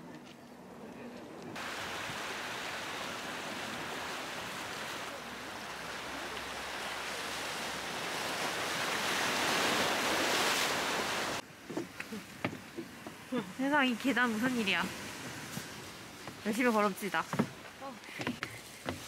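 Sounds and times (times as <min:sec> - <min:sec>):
surf washing over rocks: 0:01.6 - 0:11.4, 0:12.2 - 0:17.7.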